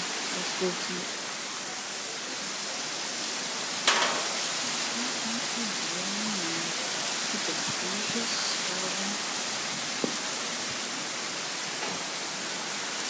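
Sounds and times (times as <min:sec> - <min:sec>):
rain: 0:00.0 - 0:13.0
wind: 0:00.0 - 0:13.0.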